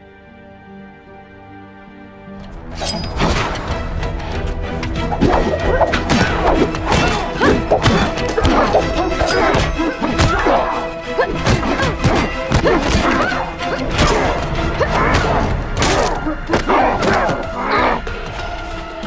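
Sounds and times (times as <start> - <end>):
dramatic soundtrack music: 0.0 - 19.0.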